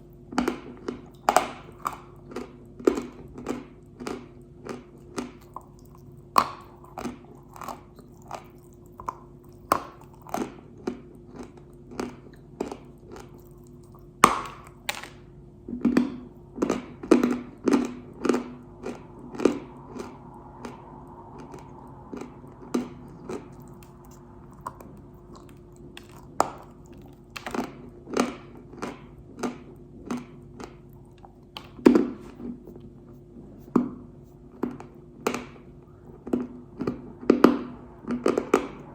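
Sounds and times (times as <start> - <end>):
crisp chewing and crunching: 0.0 - 32.8
faint steady hum: 0.0 - 38.9.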